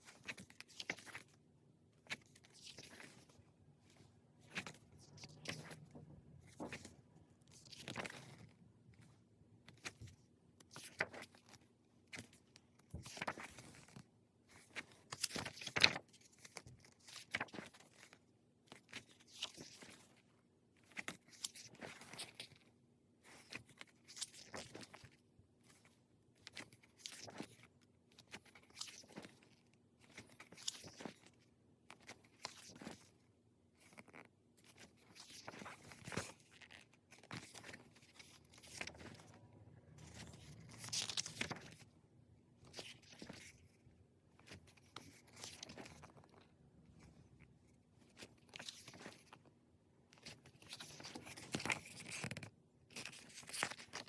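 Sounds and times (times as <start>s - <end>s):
glossy pages turning: 0.0s - 1.4s, 2.0s - 5.9s, 6.5s - 20.2s, 20.8s - 33.2s, 33.8s - 39.4s, 40.0s - 41.9s, 42.6s - 47.2s, 48.0s - 49.5s, 50.1s - 54.0s.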